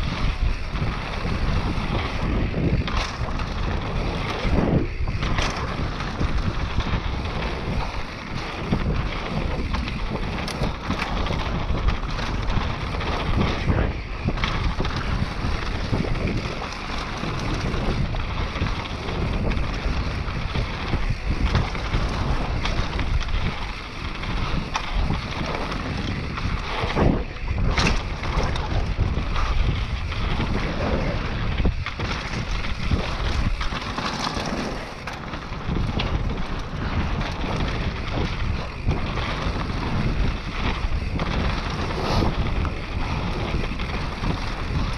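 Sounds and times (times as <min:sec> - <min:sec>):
bike knocks and rattles: 0:00.0 - 0:44.9
tyres rushing on dirt: 0:00.0 - 0:44.9
wind buffeting microphone: 0:00.0 - 0:44.9.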